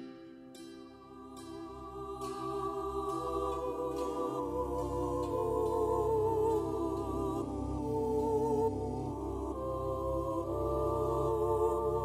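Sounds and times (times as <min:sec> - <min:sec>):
ambient music with wavering tones: 0:00.0 - 0:12.0.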